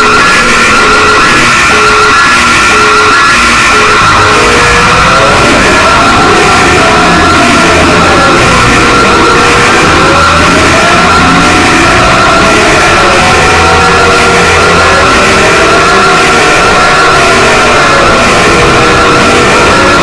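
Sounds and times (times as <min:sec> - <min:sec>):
wailing siren: 0:00.0 - 0:20.0
warbling alarm tone: 0:00.0 - 0:20.0.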